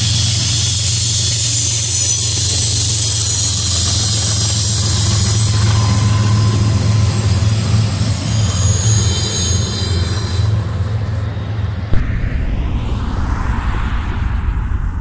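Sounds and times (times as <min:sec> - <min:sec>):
train wheel and rail noise: 0:00.0 - 0:12.0
approaching train rumble: 0:00.0 - 0:15.0
diesel engine hum: 0:00.0 - 0:15.0.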